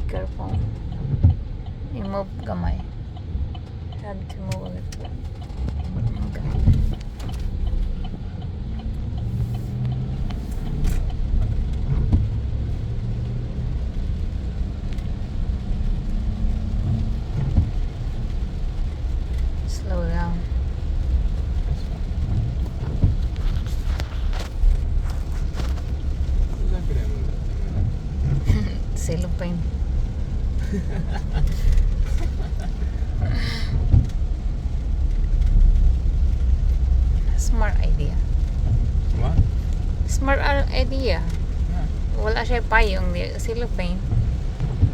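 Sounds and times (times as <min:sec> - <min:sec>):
truck engine and road noise: 0:00.0 - 0:44.9.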